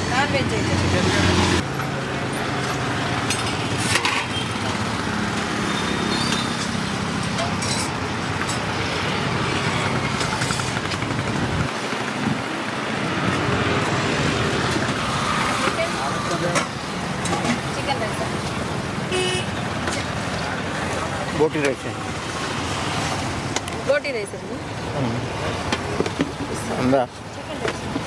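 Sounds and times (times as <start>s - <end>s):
traffic noise: 0.0s - 28.0s.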